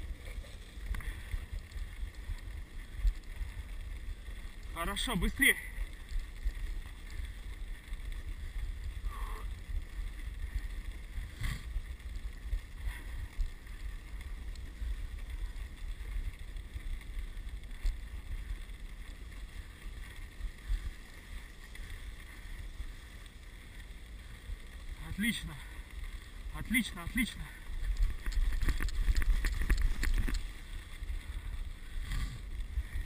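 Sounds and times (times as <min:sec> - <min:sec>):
sled runners gliding on snow: 0:00.0 - 0:33.0.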